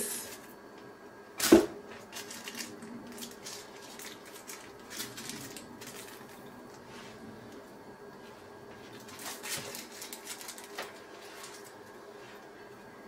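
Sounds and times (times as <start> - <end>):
rustling and crinkling plastic: 1.4 - 12.5.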